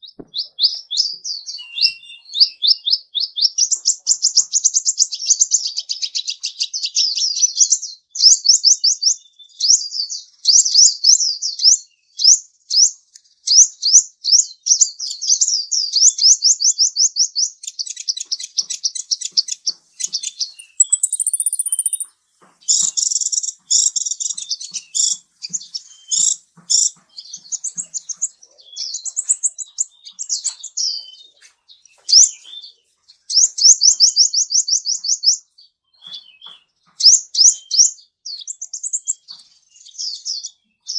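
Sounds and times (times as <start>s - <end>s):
small bird singing: 0.0s - 40.9s.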